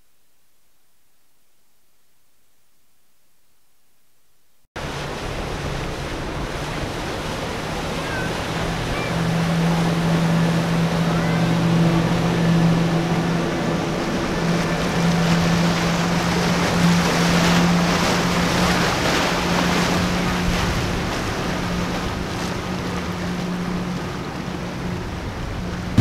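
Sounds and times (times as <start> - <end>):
outboard engines droning: 4.8 - 26.0.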